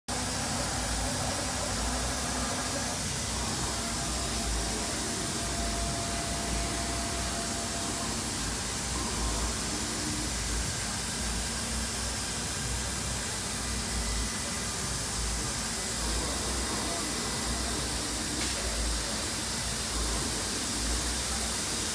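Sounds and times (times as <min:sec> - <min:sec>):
faint high whine: 0:00.1 - 0:21.9
cnc router spindle rushing: 0:00.2 - 0:21.9.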